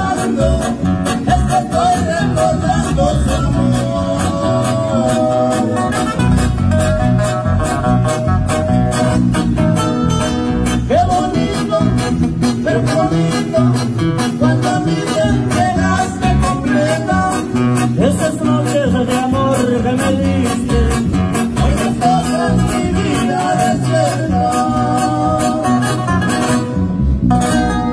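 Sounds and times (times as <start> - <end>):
man singing: 0.0 - 6.5, 10.6 - 26.6
strummed acoustic guitars: 0.0 - 27.9.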